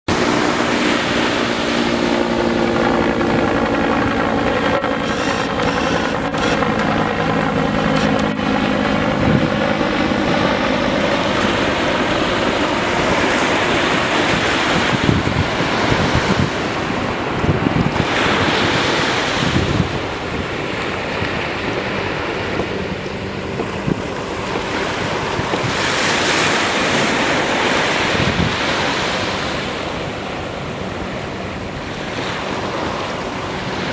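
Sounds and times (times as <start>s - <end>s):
ocean surf breaking on beach: 0.1s - 33.9s
wind buffeting microphone: 0.1s - 33.9s.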